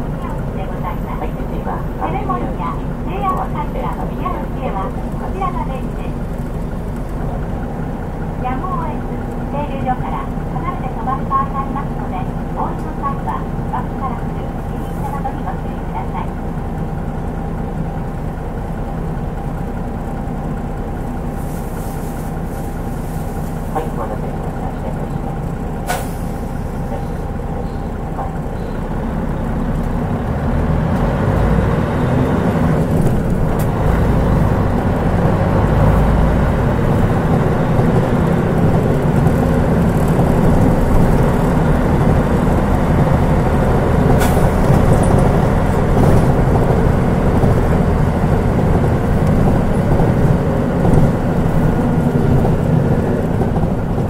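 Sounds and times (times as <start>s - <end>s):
diesel bus engine running: 0.0s - 54.0s.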